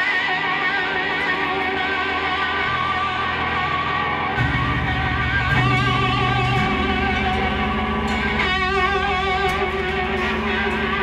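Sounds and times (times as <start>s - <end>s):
electric guitars: 0.0s - 11.0s
bass line: 1.4s - 11.0s.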